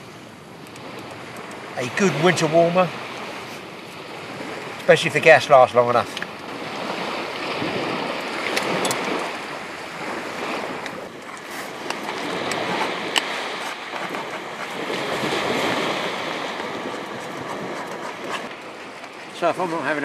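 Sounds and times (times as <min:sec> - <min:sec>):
waves washing on shingle: 0:00.8 - 0:20.0.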